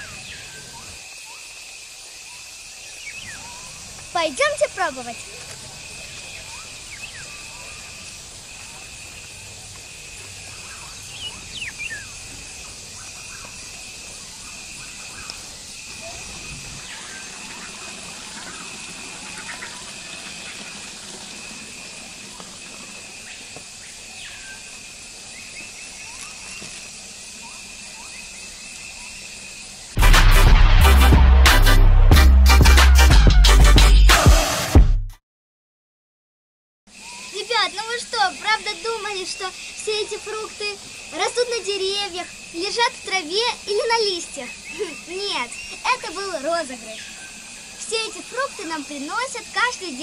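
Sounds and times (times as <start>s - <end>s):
insect buzzing: 0.0s - 30.0s, 36.9s - 50.0s.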